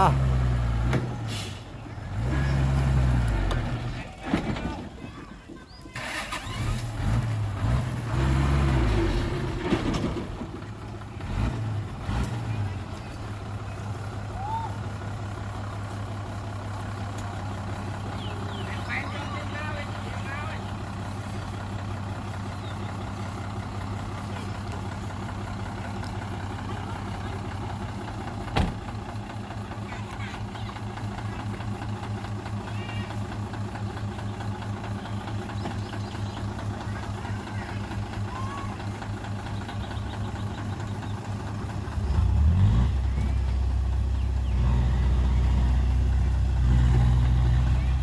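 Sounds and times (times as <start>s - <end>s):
heavy vehicle engine revving: 0.0s - 4.6s, 5.9s - 48.0s.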